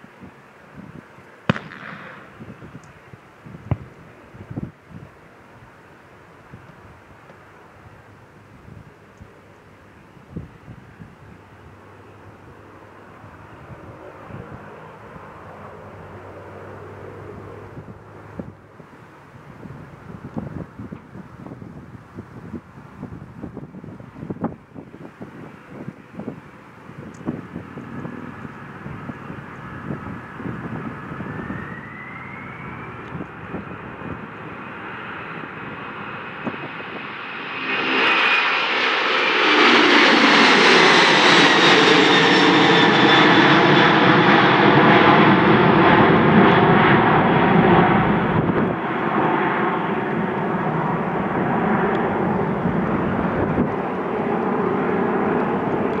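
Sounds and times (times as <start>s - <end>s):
jet engines at takeoff power: 0.0s - 56.0s.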